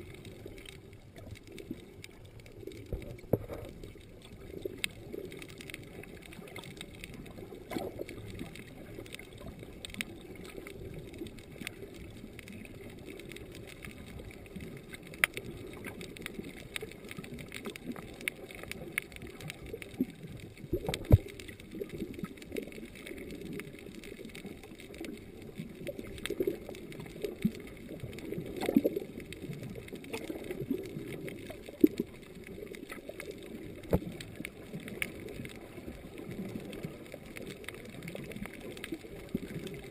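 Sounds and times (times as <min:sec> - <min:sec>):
muffled underwater rumble: 0:00.0 - 0:39.9
sharp underwater clicks: 0:00.0 - 0:39.9.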